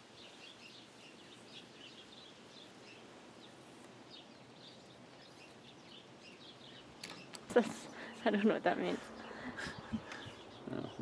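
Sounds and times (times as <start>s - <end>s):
faint small birds chirping: 0.0s - 11.0s
low background hiss: 0.0s - 11.0s.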